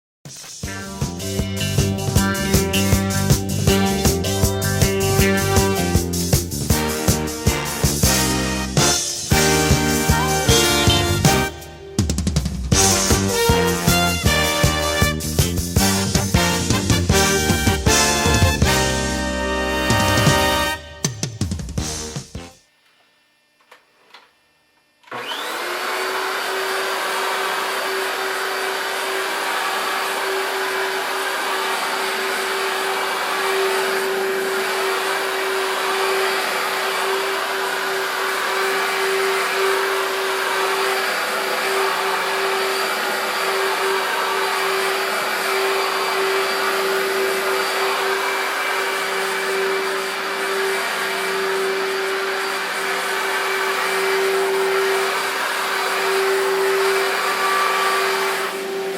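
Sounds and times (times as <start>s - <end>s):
vacuum cleaner motor whining: 0.8s - 21.6s, 22.7s - 58.9s.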